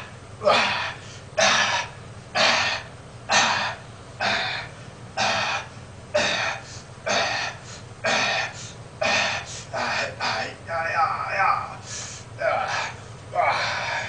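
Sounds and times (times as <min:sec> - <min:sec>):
man breathing hard: 0:00.4 - 0:10.5, 0:11.7 - 0:14.0.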